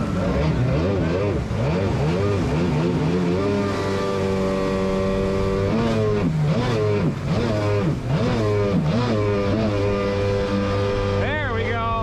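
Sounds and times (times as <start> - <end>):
jet ski engine revving: 0.0 - 12.0.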